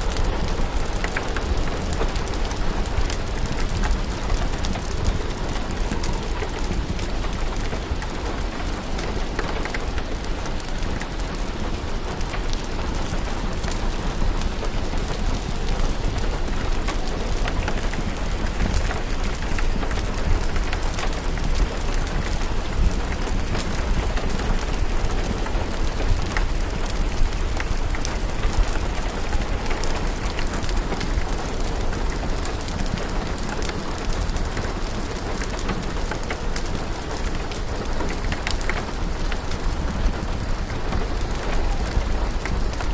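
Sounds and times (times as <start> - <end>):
fire crackling: 0.0 - 42.9
steady rain: 0.0 - 42.9.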